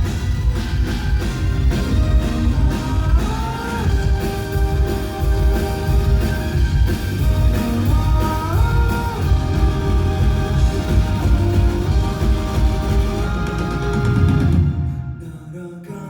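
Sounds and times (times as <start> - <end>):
sliding lead guitar: 0.0 - 14.9
bass and drums: 0.0 - 15.0.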